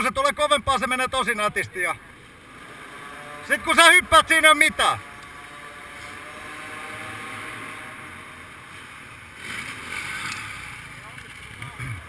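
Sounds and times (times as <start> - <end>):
motocross bike engine echoing: 0.0 - 12.0.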